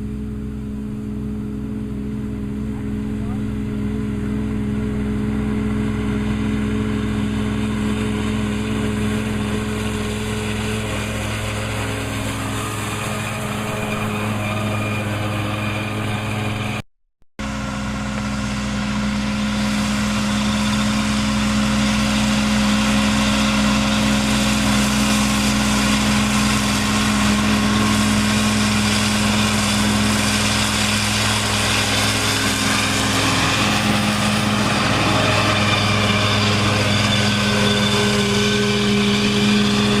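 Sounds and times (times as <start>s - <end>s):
disc mower whirring: 0.0s - 16.8s, 17.4s - 40.0s
tractor engine running: 0.0s - 16.8s, 17.4s - 40.0s.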